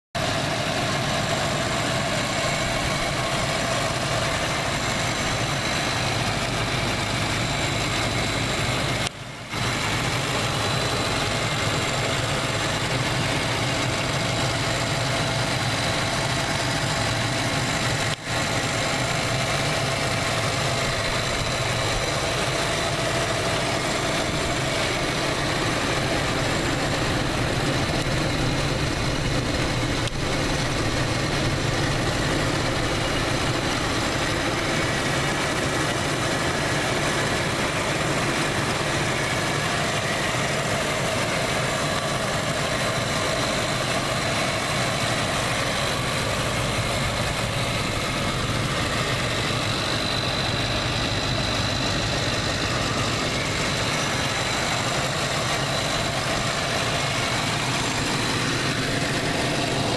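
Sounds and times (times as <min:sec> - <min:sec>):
car engine idling: 0:00.1 - 0:59.9.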